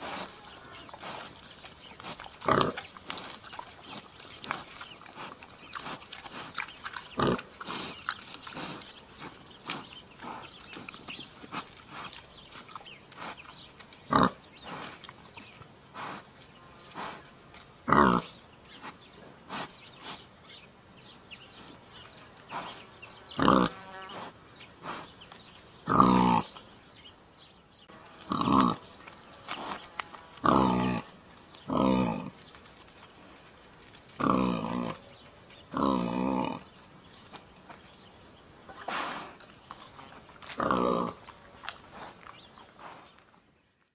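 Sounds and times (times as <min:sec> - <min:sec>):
wild boar grunting: 0:00.0 - 0:20.2, 0:21.6 - 0:25.2, 0:25.8 - 0:26.6, 0:28.3 - 0:32.4, 0:34.2 - 0:36.8, 0:38.7 - 0:43.1.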